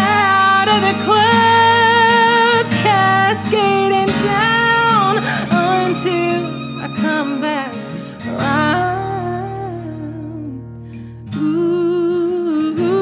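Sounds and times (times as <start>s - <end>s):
woman singing long held notes: 0.0s - 10.6s, 11.4s - 13.0s
acoustic guitar: 0.0s - 13.0s.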